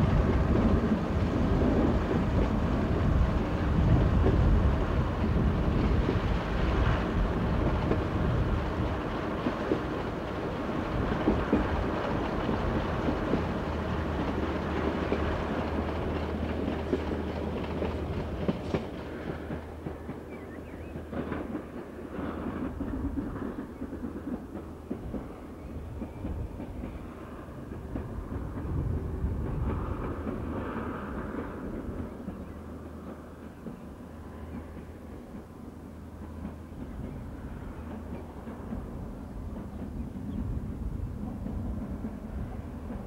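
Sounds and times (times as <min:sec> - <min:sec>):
distant train running past: 0:00.0 - 0:43.0
train engine hum: 0:00.0 - 0:43.0
wheels clicking over rail joints: 0:00.0 - 0:43.0.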